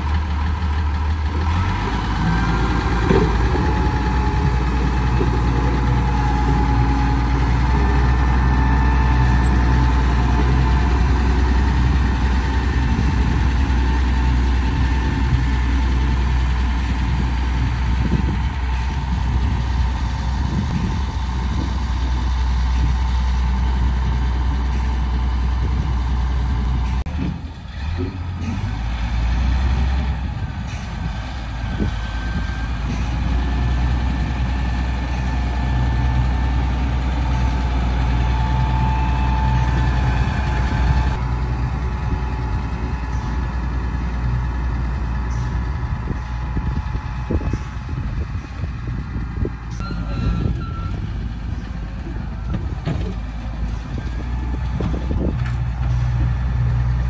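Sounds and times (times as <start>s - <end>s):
diesel excavator engine running: 0.0s - 57.0s.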